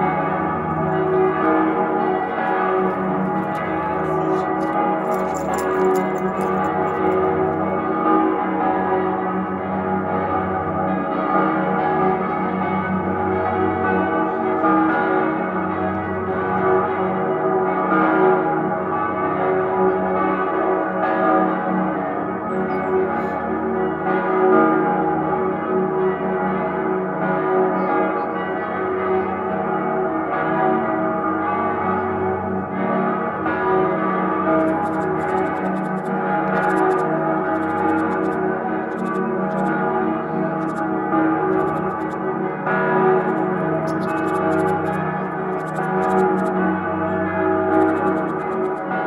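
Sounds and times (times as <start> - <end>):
church bells ringing in full peal: 0.0 - 49.0.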